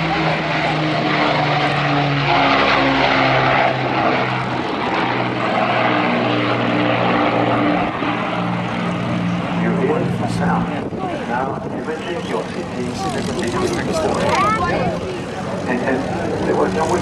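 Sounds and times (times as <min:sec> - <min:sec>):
aircraft engines in flight: 0:00.0 - 0:17.0.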